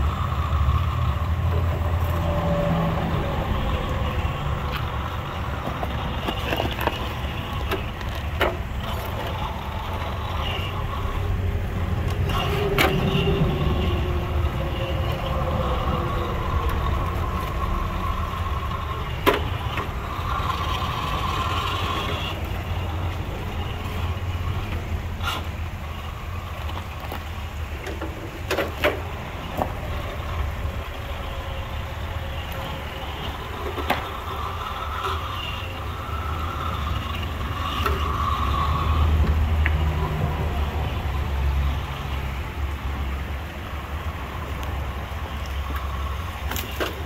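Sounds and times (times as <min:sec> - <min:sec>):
electric motor and gears whining: 0:00.0 - 0:47.0.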